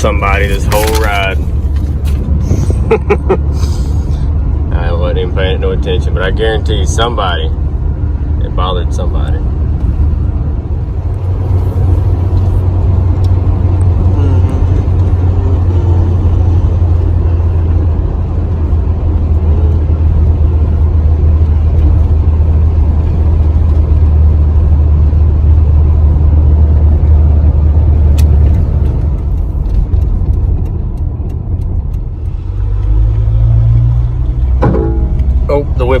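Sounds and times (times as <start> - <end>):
truck engine and road drone: 0.0 - 36.0.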